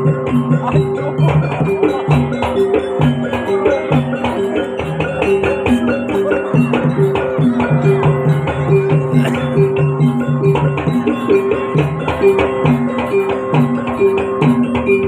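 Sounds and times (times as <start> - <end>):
gamelan ensemble tuned notes: 0.0 - 15.0
steady drumming: 0.0 - 15.0.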